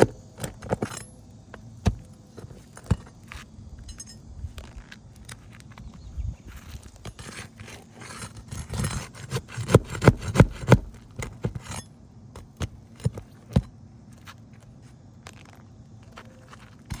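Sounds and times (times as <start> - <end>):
scraping and prying roof shingles: 0.0 - 3.5, 6.5 - 17.0.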